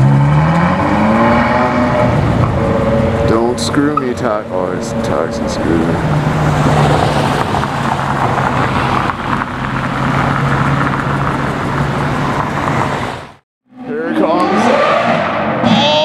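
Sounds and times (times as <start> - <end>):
car engine low note: 0.0 - 16.0
street traffic noise: 0.0 - 16.0.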